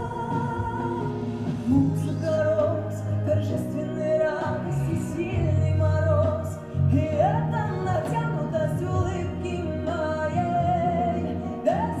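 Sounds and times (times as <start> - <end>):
woman singing slow song: 0.0 - 12.0.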